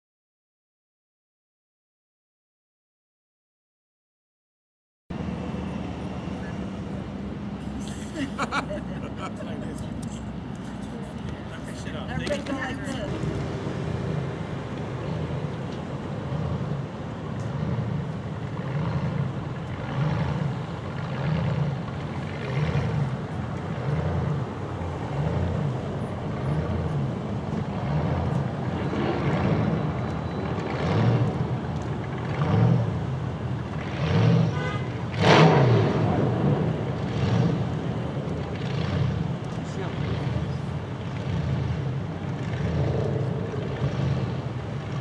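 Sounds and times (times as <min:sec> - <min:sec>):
car engines through loud exhausts: 0:05.1 - 0:45.0.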